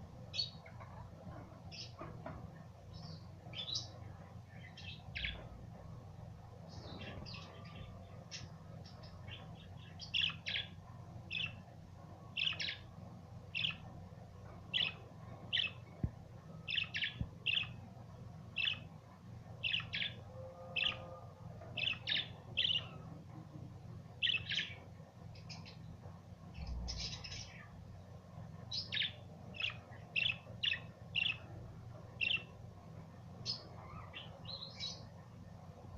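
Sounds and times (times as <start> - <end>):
low steady hum: 0.0 - 35.9.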